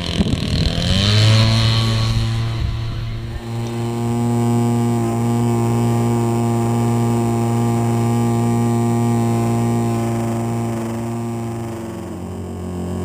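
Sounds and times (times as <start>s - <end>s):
two-stroke model plane engine: 0.0s - 13.0s.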